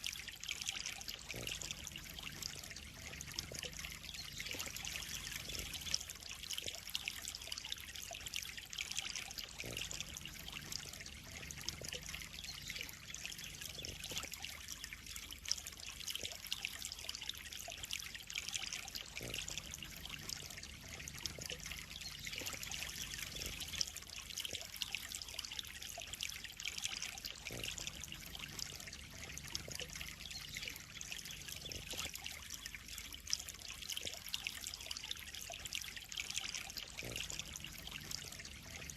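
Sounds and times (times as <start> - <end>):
water trickling into pond: 0.0 - 38.9.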